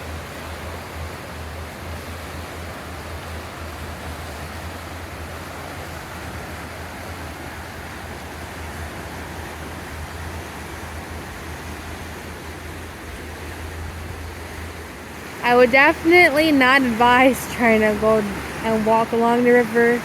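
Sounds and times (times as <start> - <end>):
flooded river rushing: 0.0 - 20.0.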